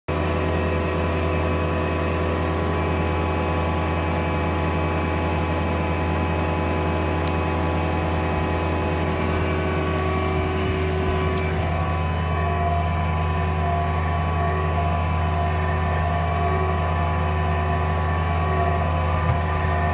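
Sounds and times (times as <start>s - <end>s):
stump grinder droning: 0.1s - 19.9s.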